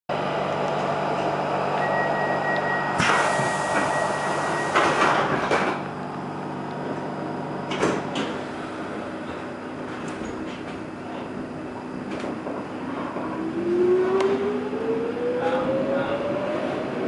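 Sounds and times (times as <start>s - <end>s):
train wheel and rail noise: 0.1s - 17.0s.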